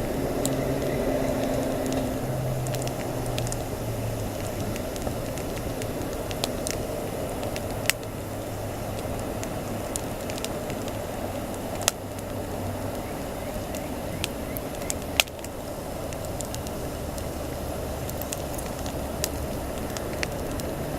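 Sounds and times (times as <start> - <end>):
campfire crackling and popping: 0.0 - 20.9
low steady hum: 0.0 - 20.9.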